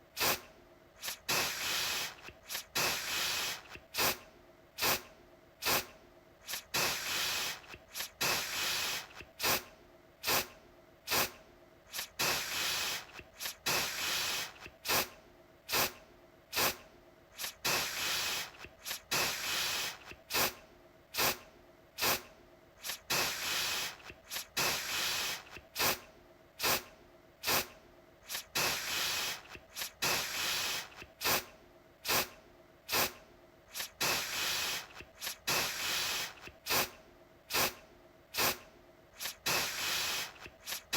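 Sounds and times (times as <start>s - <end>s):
aerosol spray can hissing: 0.2s - 0.4s, 1.0s - 4.2s, 4.8s - 10.5s, 11.1s - 16.8s, 17.4s - 20.6s, 21.2s - 21.4s, 22.0s - 26.0s, 26.6s - 37.8s, 38.4s - 38.6s, 39.2s - 40.9s.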